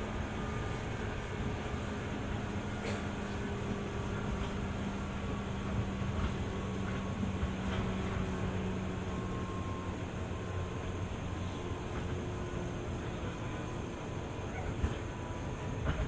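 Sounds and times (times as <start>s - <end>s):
train interior rumble and hum: 0.0s - 16.0s.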